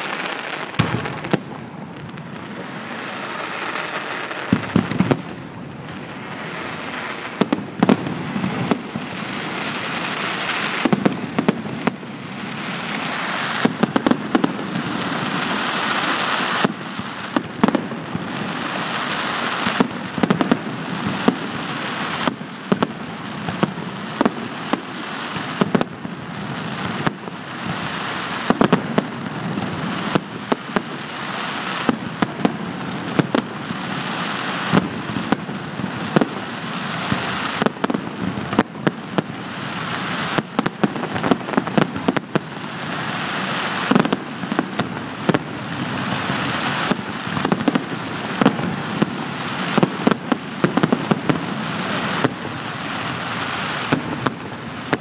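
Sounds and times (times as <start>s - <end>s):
firework bangs: 0.0s - 55.0s
firework crackle: 0.0s - 55.0s.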